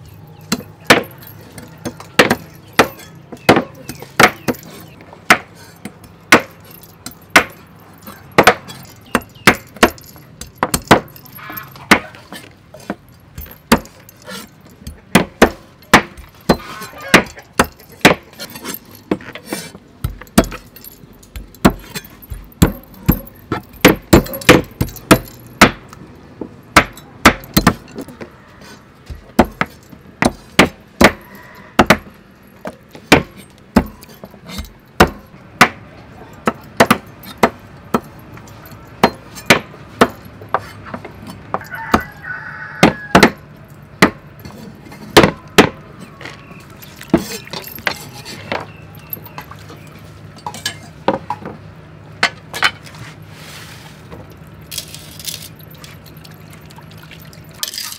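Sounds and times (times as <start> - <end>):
cleavers chopping on wooden blocks: 0.5 - 20.7, 21.3 - 28.3, 29.0 - 38.2, 39.0 - 49.4.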